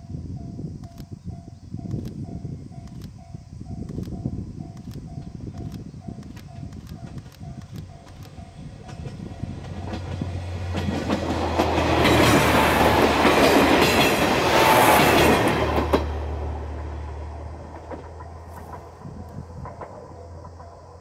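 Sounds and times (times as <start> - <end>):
diesel railcar passing: 1.4 - 21.0.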